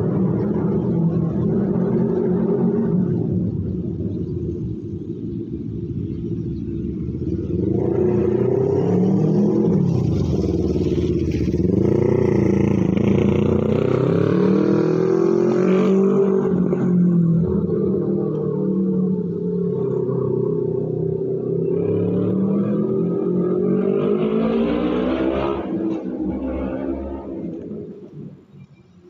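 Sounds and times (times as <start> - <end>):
motorcycle passing: 0.0 - 28.6
road traffic passing: 0.0 - 29.0.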